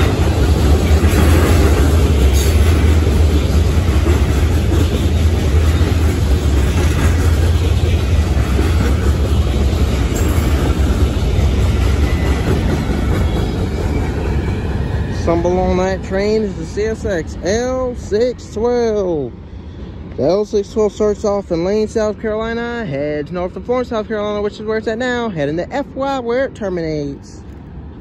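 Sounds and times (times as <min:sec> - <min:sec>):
freight train wheels rumbling on rails: 0:00.0 - 0:28.0.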